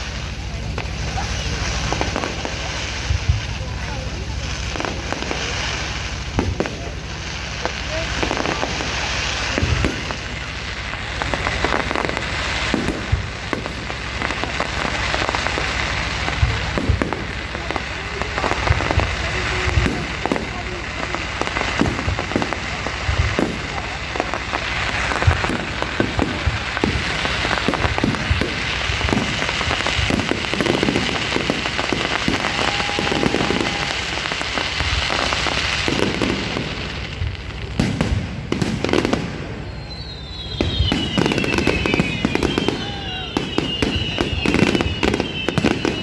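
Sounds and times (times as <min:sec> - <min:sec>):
fireworks crackling and banging: 0:00.0 - 0:46.0.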